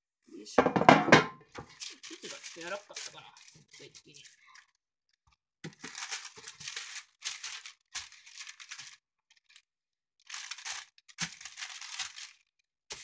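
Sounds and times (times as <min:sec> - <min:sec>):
parchment paper rustling: 0:01.6 - 0:04.7, 0:05.6 - 0:13.0.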